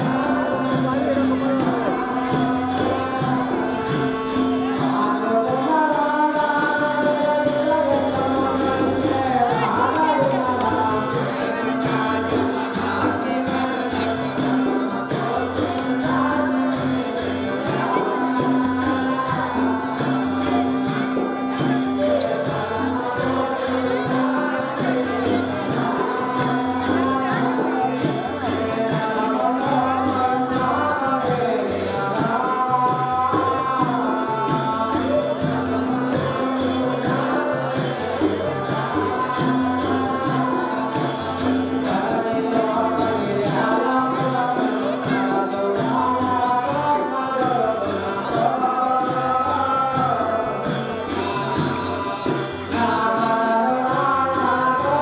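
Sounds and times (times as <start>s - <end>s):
fast percussion beat: 0.0s - 55.0s
harmonium drone: 0.0s - 55.0s
person singing: 0.0s - 55.0s.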